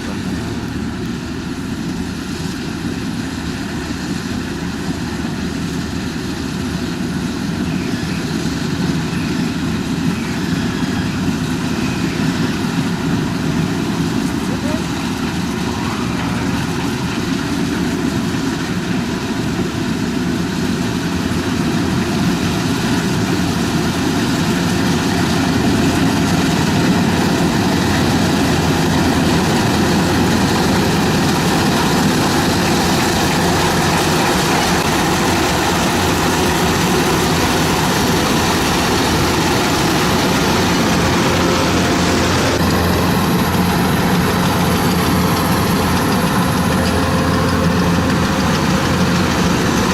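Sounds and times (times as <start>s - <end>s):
combine harvester running: 0.0s - 49.9s.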